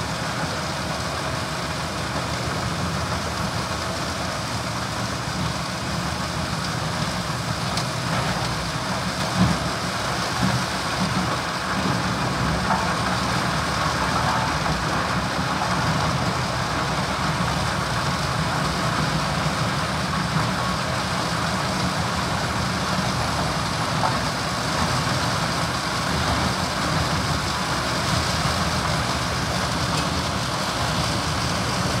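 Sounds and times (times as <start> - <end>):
tractor engine running: 0.0 - 32.0
wood chipper chipping logs: 0.0 - 32.0.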